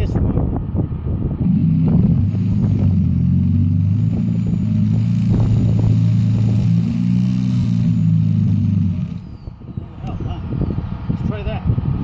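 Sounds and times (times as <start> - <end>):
generator droning: 0.6 - 12.0.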